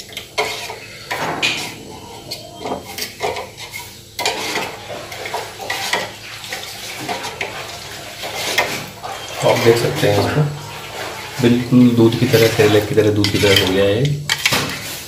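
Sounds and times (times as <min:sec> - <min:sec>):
spoon scraping a metal pan: 0:00.0 - 0:10.4, 0:12.1 - 0:15.0.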